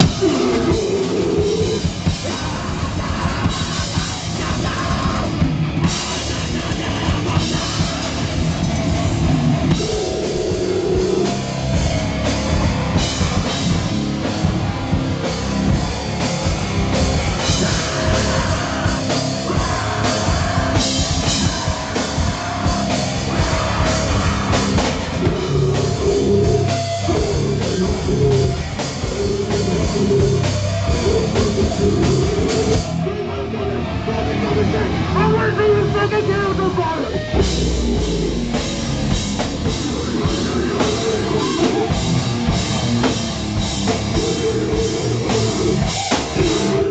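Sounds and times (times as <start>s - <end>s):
live heavy metal band playing: 0.0s - 46.9s.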